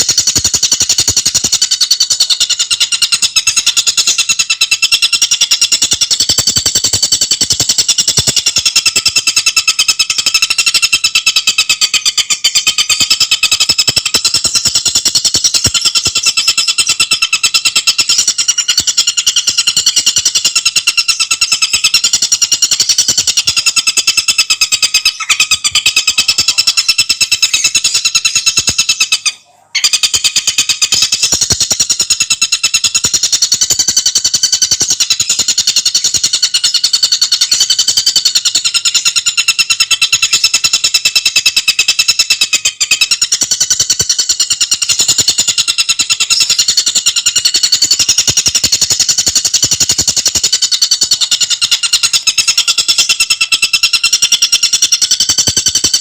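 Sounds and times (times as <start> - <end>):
bird chattering trill: 0.0 - 56.0.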